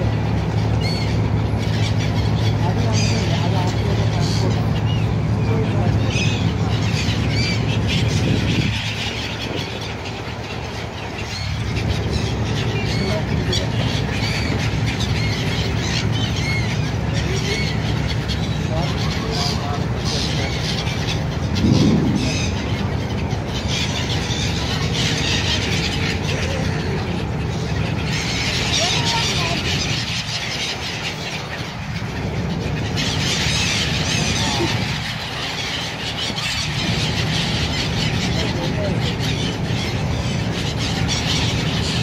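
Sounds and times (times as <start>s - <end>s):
gulls calling: 0.0s - 42.0s
low engine hum: 0.0s - 42.0s.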